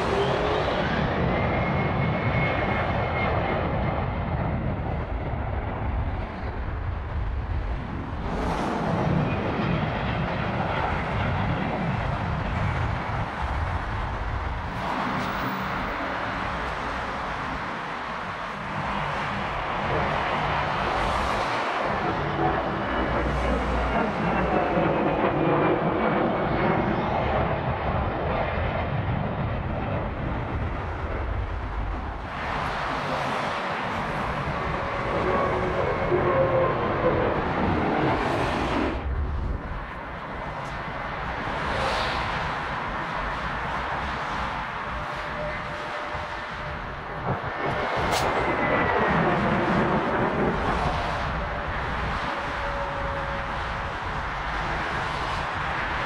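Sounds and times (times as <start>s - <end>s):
high jet engine whine: 0.0s - 56.0s
jet engines roaring: 0.0s - 56.0s.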